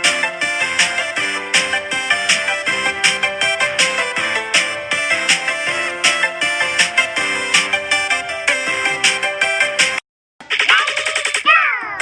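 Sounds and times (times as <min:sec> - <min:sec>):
music with steady beat: 0:00.0 - 0:11.4.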